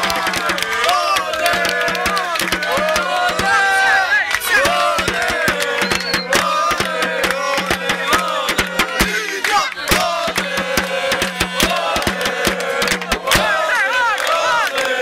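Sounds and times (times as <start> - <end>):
music with sharp beats: 0.0 - 13.6
boys shouting and chanting: 0.0 - 15.0.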